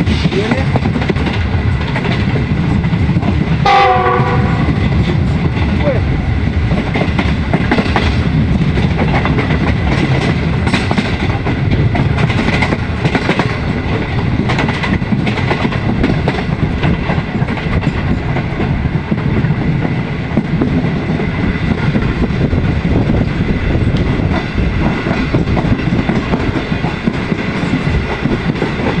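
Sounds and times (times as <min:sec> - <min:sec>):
rail joint clicks: 0:00.0 - 0:29.0
train wheels rumbling on rails: 0:00.0 - 0:29.0.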